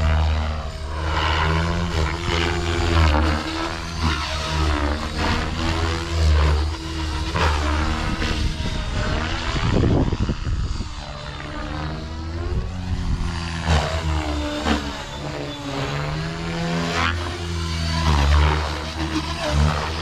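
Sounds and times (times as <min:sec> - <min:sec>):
rc helicopter rotor and motor whine: 0:00.0 - 0:20.0.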